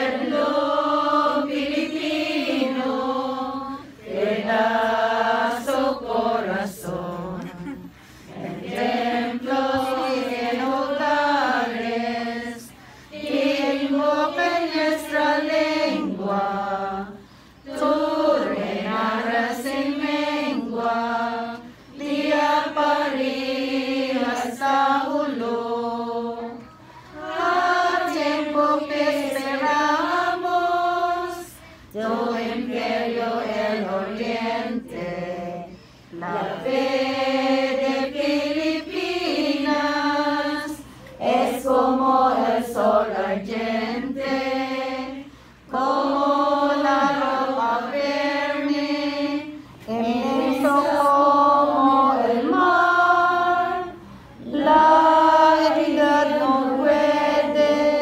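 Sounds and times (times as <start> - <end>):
group singing a hymn: 0.0 - 58.0.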